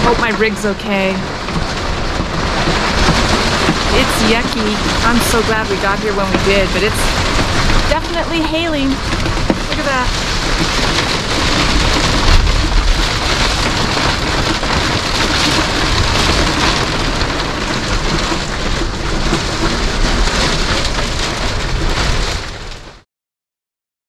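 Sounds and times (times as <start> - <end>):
hail and rain on a roof: 0.0 - 23.0
low rumble: 0.0 - 23.0.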